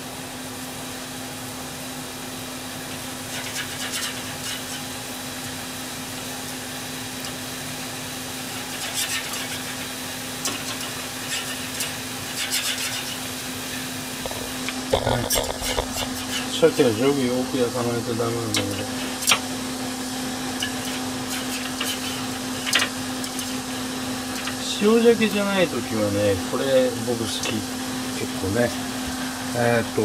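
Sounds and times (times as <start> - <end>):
fish sizzling under grill: 0.0 - 26.3
kitchen fan humming: 0.0 - 30.0.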